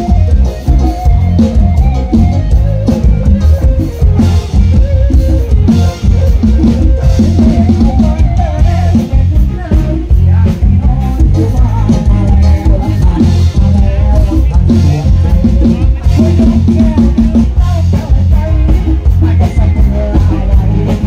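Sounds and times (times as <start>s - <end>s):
drum kit beat: 0.0s - 21.0s
electric guitar: 0.0s - 21.0s
heavy bass: 0.0s - 21.0s
live dance music over loudspeakers: 0.0s - 21.0s.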